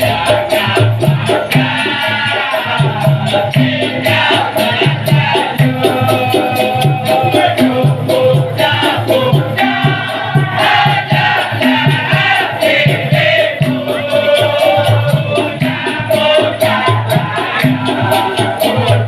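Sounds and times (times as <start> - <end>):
drums beating: 0.0 - 19.0
maracas shaking: 0.0 - 19.0.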